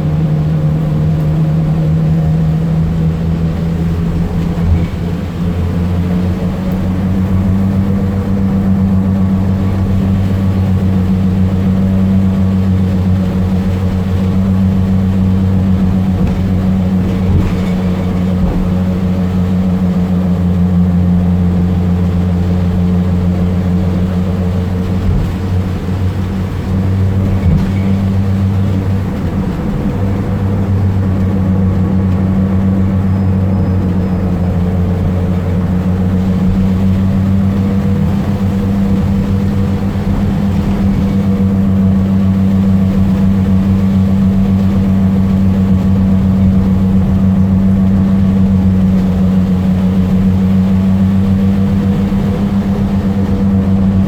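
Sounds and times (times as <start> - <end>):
minibus engine droning: 0.0 - 54.0.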